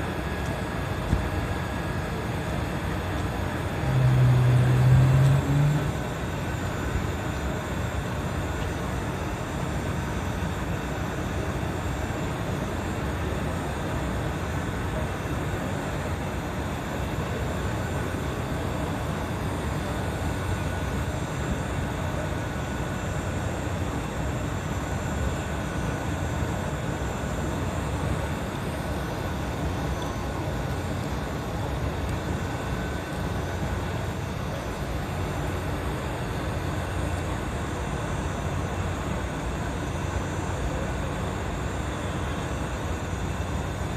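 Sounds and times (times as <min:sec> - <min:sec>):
engine running steadily: 0:00.0 - 0:43.9.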